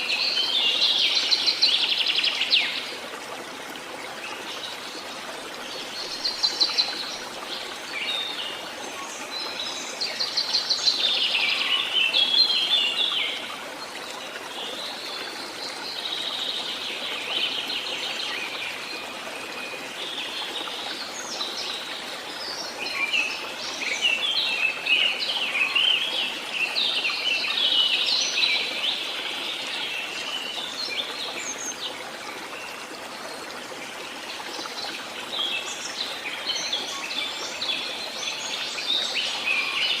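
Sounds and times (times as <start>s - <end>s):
songbirds singing and chirping: 4.1s - 40.0s.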